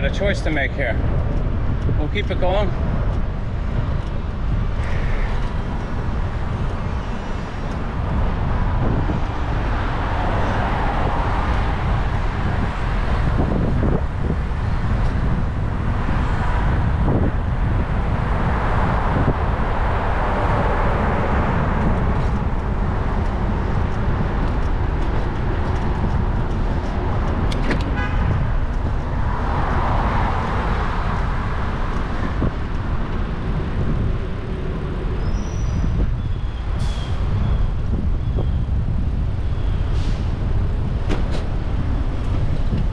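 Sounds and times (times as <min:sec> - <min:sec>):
cars passing: 0:00.0 - 0:42.9
wind rumble on microphone: 0:00.0 - 0:42.9.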